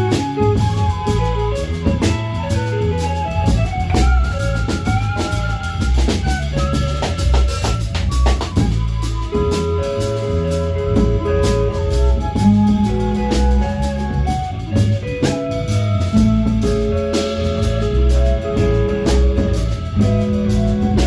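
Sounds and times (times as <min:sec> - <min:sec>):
drum kit beat: 0:00.0 - 0:21.0
guitar and bass: 0:00.0 - 0:21.0
sliding melody notes: 0:00.0 - 0:21.0.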